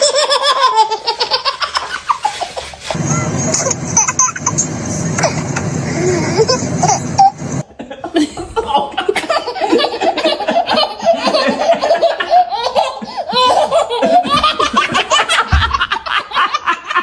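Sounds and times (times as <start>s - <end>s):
children laughing and giggling: 0.0s - 17.0s.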